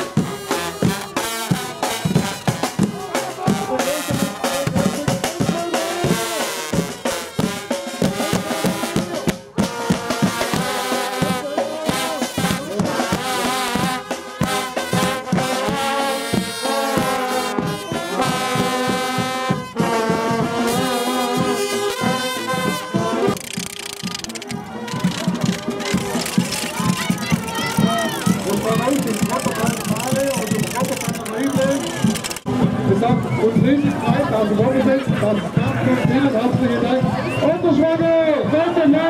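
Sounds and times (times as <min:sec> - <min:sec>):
bass drum and drums beat: 0:00.0 - 0:36.2
marching brass band: 0:00.0 - 0:39.0.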